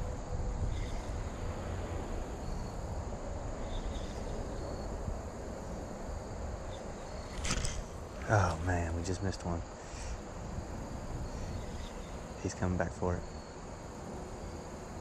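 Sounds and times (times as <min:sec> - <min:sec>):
outdoor rushing noise: 0:00.0 - 0:13.2
insects calling faintly: 0:00.0 - 0:15.0.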